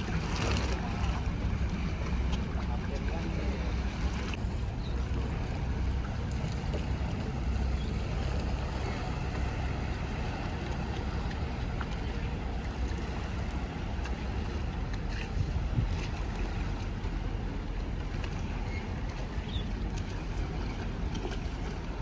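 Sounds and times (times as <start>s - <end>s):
boat engines rumbling: 0.0s - 22.0s
wind buffeting microphone: 0.0s - 22.0s.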